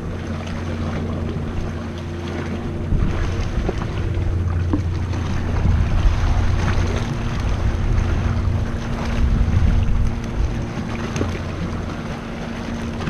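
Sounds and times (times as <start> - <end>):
low hum: 0.0 - 13.0
water splashing around oars: 0.0 - 13.0
wind on microphone: 0.0 - 13.0.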